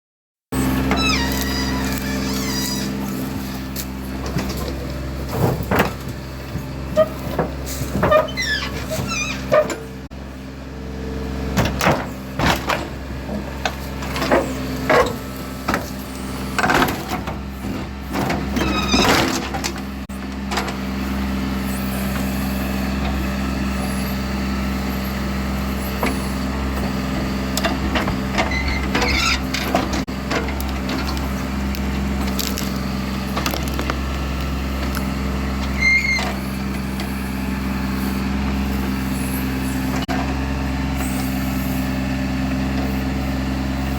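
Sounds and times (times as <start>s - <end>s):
engine running with steady hum: 0.6s - 43.9s.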